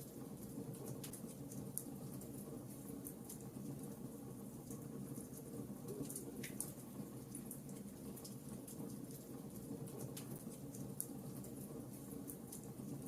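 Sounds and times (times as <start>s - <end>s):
wood crackling and popping: 0.0s - 13.0s.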